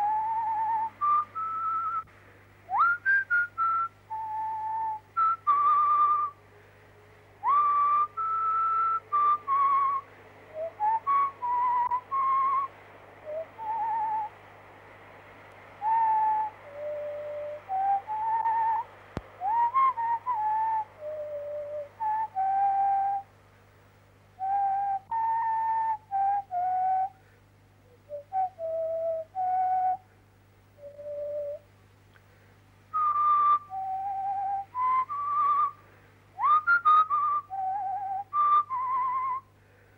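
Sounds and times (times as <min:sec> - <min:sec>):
person whistling a slow tune: 0:00.0 - 0:02.1, 0:02.7 - 0:06.4, 0:07.4 - 0:14.3, 0:15.8 - 0:23.3, 0:24.4 - 0:27.2, 0:27.9 - 0:30.1, 0:30.8 - 0:31.7, 0:32.9 - 0:35.8, 0:36.4 - 0:39.6
faint low hum: 0:00.0 - 0:39.9.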